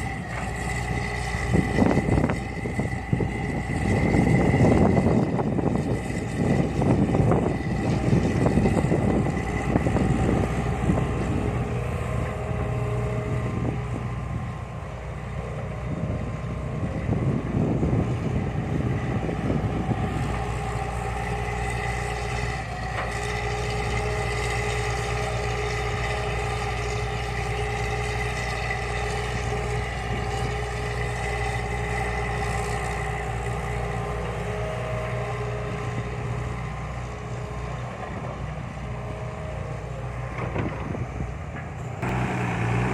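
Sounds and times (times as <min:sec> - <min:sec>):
excavator diesel engine running: 0:00.0 - 0:42.9
excavator digging soil: 0:00.0 - 0:42.9.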